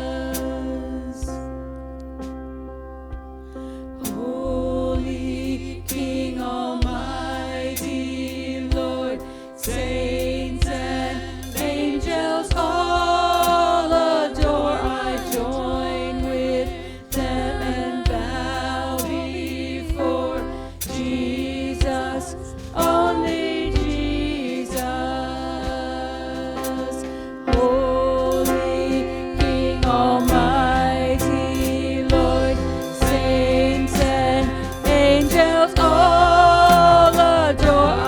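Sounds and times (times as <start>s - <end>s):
group singing a hymn: 0.0s - 1.5s, 4.0s - 38.0s.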